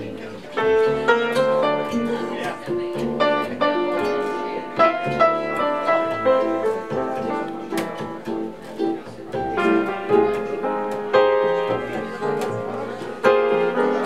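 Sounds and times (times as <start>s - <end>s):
jazz trio playing: 0.0s - 14.0s
piano chords: 0.0s - 14.0s.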